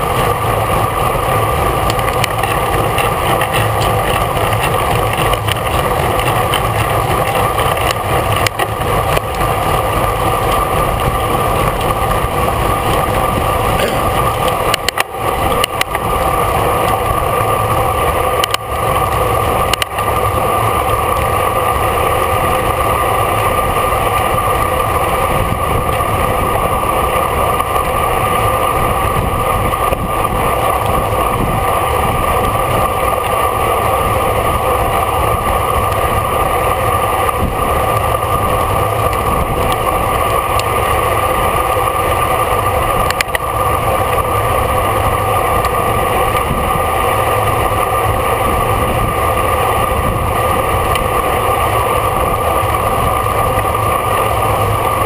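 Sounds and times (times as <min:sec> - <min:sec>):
bicycle road noise: 0:00.0 - 0:55.0
wind rushing over microphone: 0:00.0 - 0:55.0.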